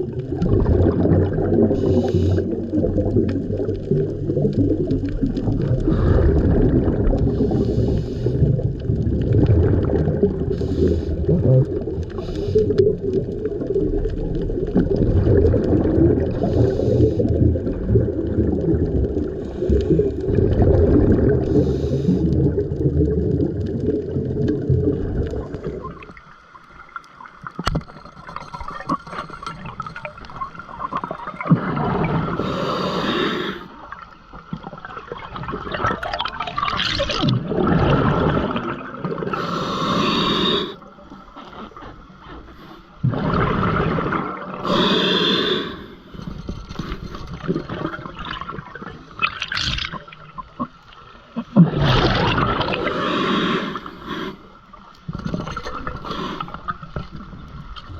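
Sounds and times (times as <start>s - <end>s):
exhaled scuba bubbles: 0.0s - 57.9s
muffled underwater rush: 0.0s - 57.9s.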